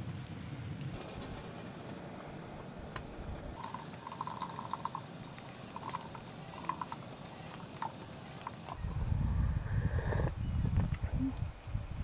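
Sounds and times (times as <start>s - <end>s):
insects chirping in pulsed trills: 0.0s - 12.0s.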